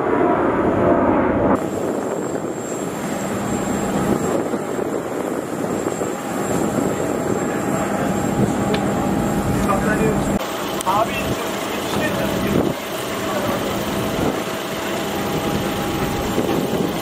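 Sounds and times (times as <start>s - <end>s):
aircraft turbine running: 0.0s - 17.0s.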